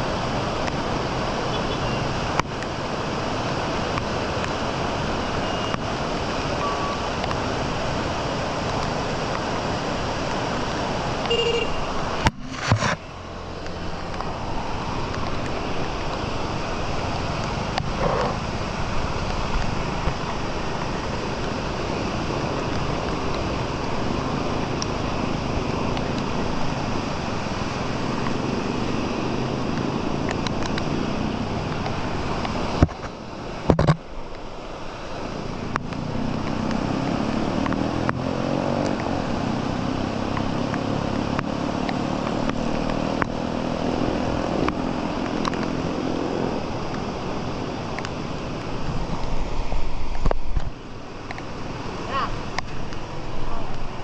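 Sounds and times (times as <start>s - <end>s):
heavy rain: 0.0s - 54.0s
rushing water: 0.0s - 54.0s.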